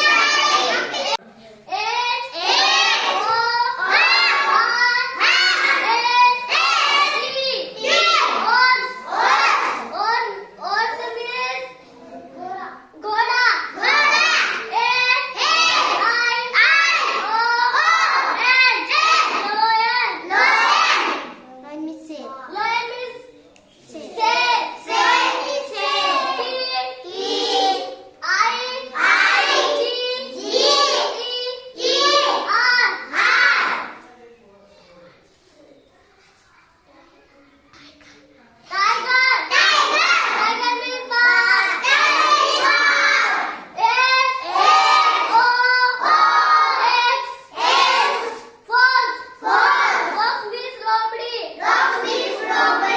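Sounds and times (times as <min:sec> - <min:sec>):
young children singing: 0:00.0 - 0:21.4, 0:23.6 - 0:34.1, 0:37.7 - 0:52.9.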